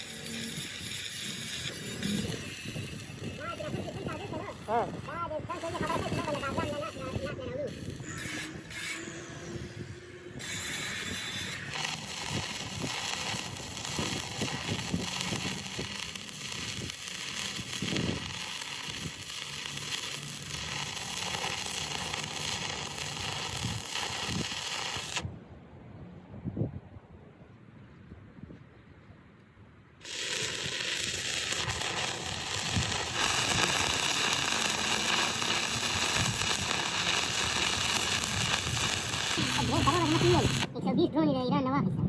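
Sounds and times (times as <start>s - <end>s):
welding arc crackling and hissing: 0.0s - 9.1s, 10.4s - 25.2s, 30.0s - 40.7s.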